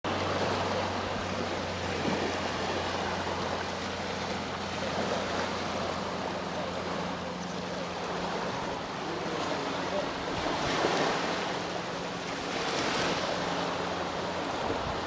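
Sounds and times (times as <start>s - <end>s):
sea waves washing on shore: 0.1s - 15.0s.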